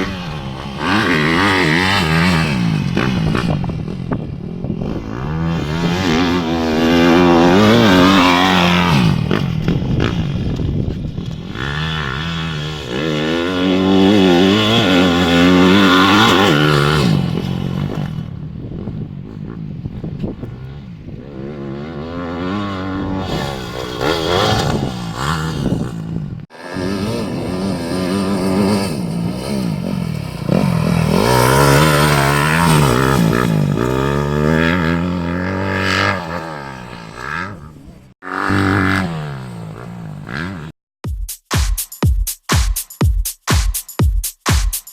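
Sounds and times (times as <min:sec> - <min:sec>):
motorbike engine revving: 0:00.0 - 0:40.8.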